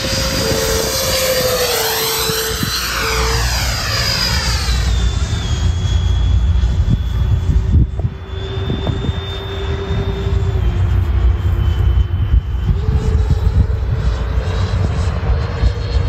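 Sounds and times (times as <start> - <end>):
rc jet ducted fans whining: 0.0 - 16.0
wind rumble on microphone: 0.0 - 16.0.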